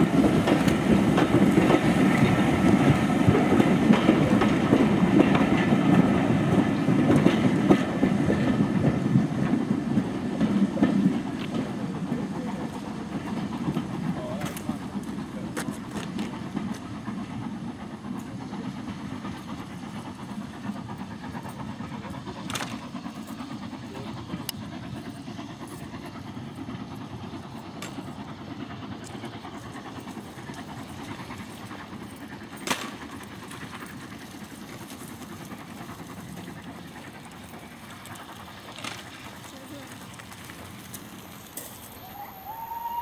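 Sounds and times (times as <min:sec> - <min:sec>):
steam train rumbling: 0:00.0 - 0:43.0.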